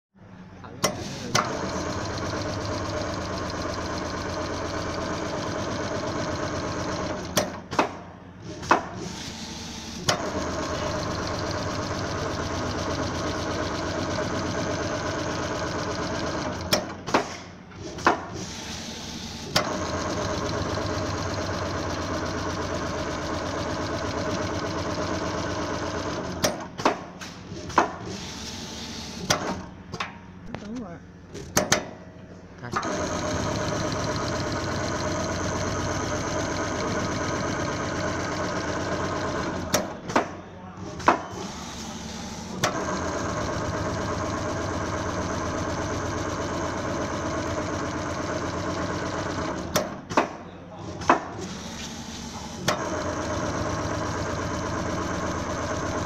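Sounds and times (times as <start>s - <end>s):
sewing machine stitching: 0.8s - 7.7s, 8.4s - 17.1s, 17.8s - 26.8s, 32.8s - 50.2s, 50.8s - 56.0s.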